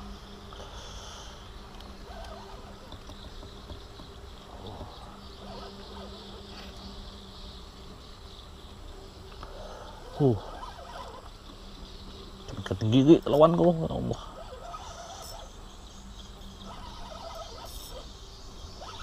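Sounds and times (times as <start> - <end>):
insects buzzing and chirping: 0.0 - 19.0.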